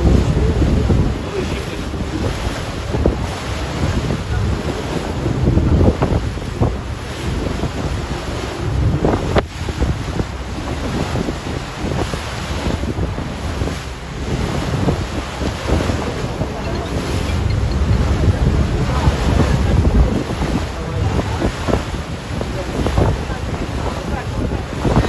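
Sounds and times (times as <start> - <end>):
sea water rushing along hull: 0.0 - 25.0
wind buffeting microphone: 0.0 - 25.0.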